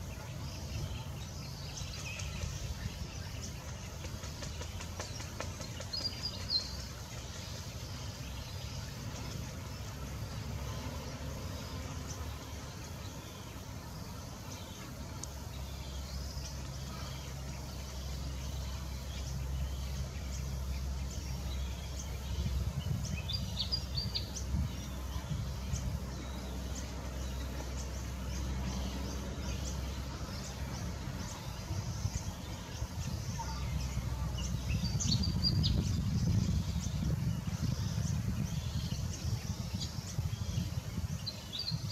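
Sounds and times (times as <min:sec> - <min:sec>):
small birds chirping: 0:00.0 - 0:41.9
steady low rumble: 0:00.0 - 0:41.9.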